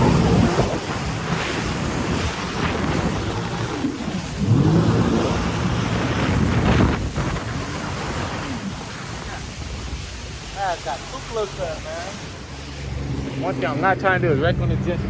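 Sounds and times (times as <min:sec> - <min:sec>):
jet ski engine: 0:00.0 - 0:15.0
water rushing and splashing: 0:00.0 - 0:15.0
wind buffeting microphone: 0:00.0 - 0:15.0.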